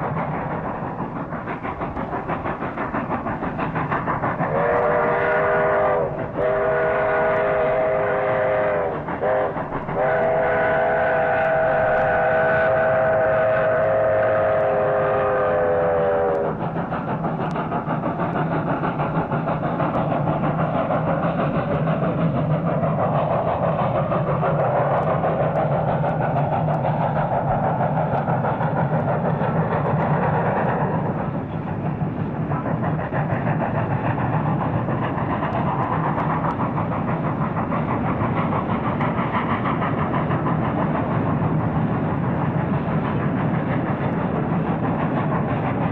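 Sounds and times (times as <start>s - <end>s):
train rumbling on rails: 0.0s - 45.9s.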